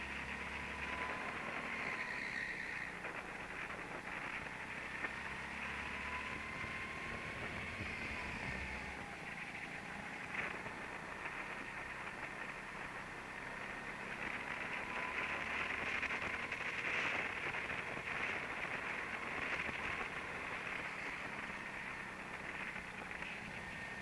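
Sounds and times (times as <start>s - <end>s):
go-kart rushing noise: 0.0s - 24.0s.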